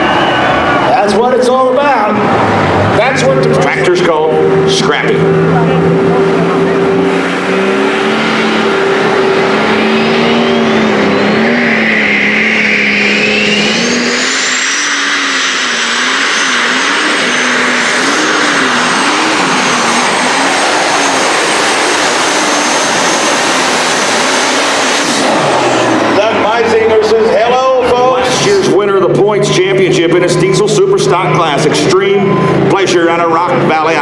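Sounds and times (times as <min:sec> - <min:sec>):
turbocharger whine: 0:00.0 - 0:34.0.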